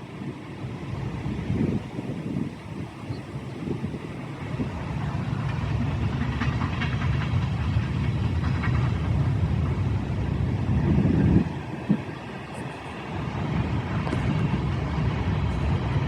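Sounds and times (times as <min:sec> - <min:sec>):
train clatter: 0:00.0 - 0:16.0
train rumbling past: 0:00.0 - 0:16.0
wind buffeting microphone: 0:00.0 - 0:16.0.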